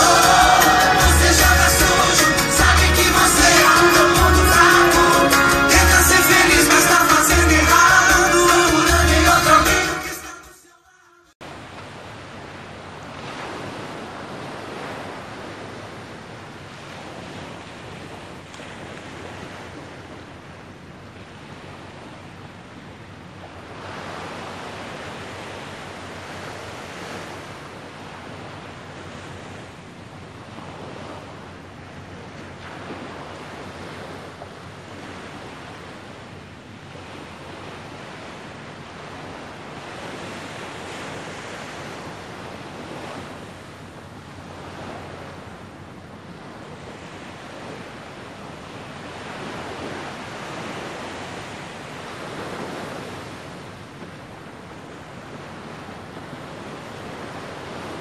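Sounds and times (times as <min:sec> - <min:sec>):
small waves washing onto beach: 0:11.4 - 0:58.0.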